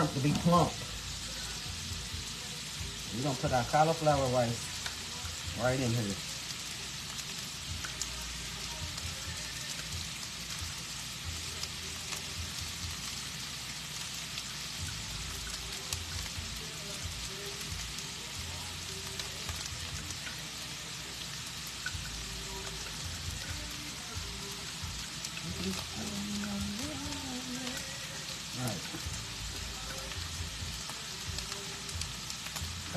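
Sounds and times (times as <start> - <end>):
food sizzling in a pan: 0.0 - 32.9.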